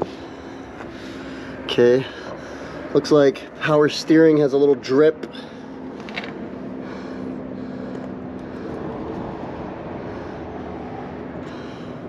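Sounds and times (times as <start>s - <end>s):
machine droning with hum and hiss: 0.0s - 12.0s.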